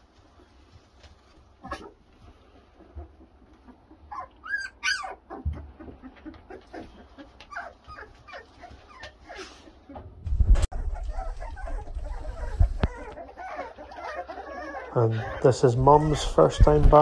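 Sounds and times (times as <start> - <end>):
puppies whimpering and squealing: 1.2 - 17.0.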